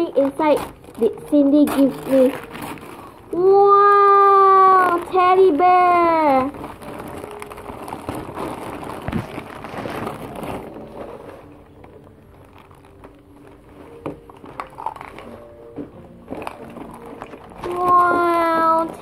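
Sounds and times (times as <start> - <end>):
packaging rustling and crinkling: 0.0 - 19.0.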